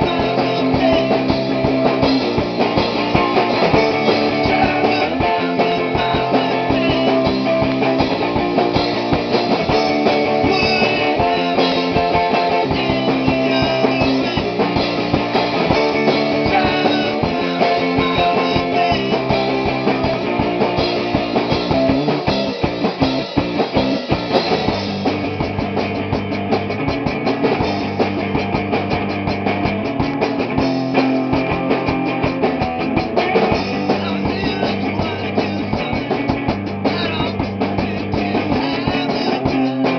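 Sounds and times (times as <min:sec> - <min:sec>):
drum kit playing: 0:00.0 - 0:39.9
electric guitar chords: 0:00.0 - 0:39.9.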